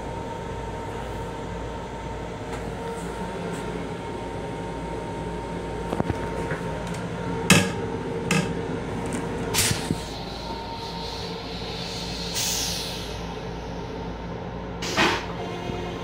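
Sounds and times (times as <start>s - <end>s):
moving train hum: 0.0s - 16.0s.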